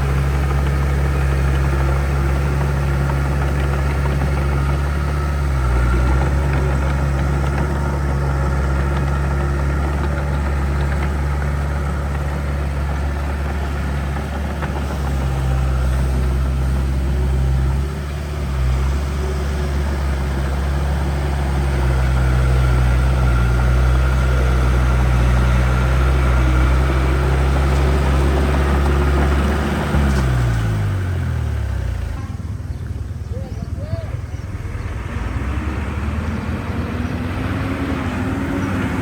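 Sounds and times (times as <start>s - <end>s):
heavy diesel engine running: 0.0s - 39.0s.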